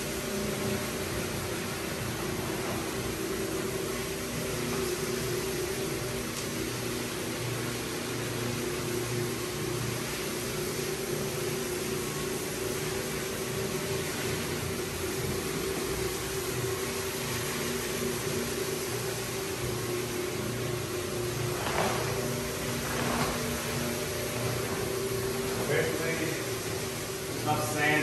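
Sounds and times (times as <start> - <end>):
floor buffer motor humming: 0.0 - 28.0.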